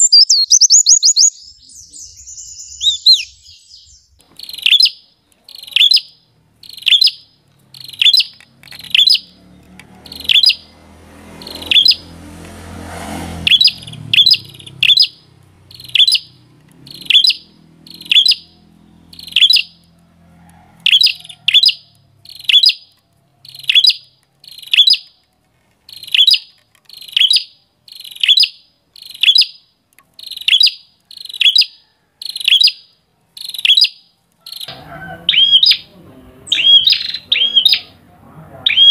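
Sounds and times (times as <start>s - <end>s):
bird chirping sharply: 0.0s - 10.7s, 11.3s - 12.2s, 13.3s - 19.9s, 20.9s - 25.2s, 25.9s - 38.0s, 38.6s - 38.9s.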